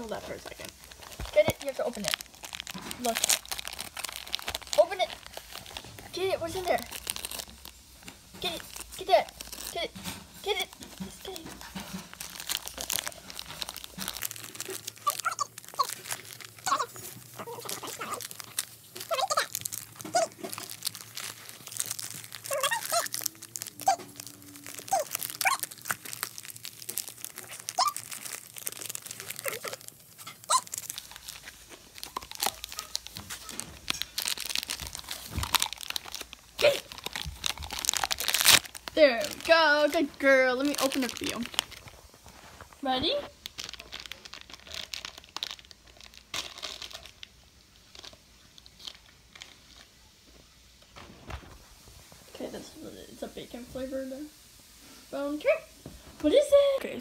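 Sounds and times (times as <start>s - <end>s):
dog ripping wrapping paper: 0.0s - 49.9s
packaging tearing and crinkling: 0.0s - 49.9s.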